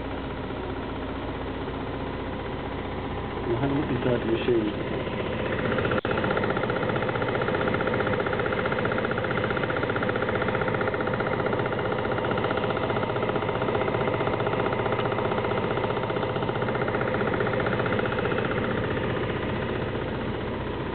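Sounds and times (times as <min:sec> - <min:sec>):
centrifuge humming and pulsing: 0:00.0 - 0:20.9.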